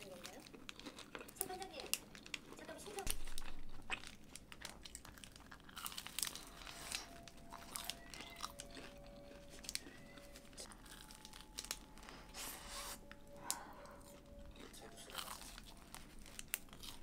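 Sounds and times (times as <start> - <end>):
paper wrapper crinkling: 0.0 - 17.0
crunchy bites and chewing: 0.2 - 11.9, 14.0 - 17.0.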